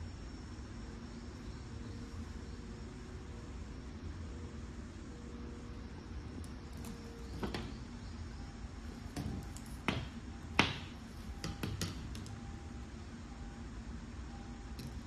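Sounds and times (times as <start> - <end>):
low steady background hum: 0.0 - 15.0.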